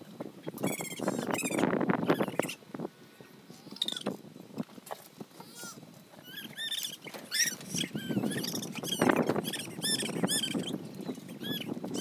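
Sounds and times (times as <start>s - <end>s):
small birds peeping: 0.4s - 12.0s.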